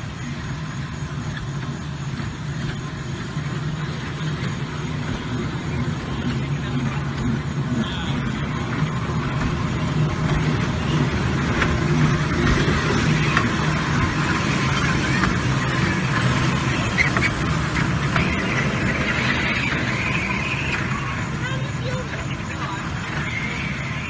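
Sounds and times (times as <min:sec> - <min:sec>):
miniature train motor hum: 0:00.0 - 0:24.0.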